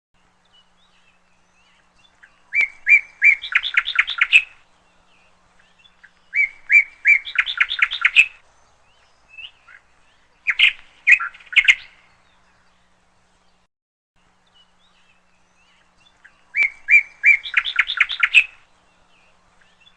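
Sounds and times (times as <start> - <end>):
bird singing: 0.2 - 19.9.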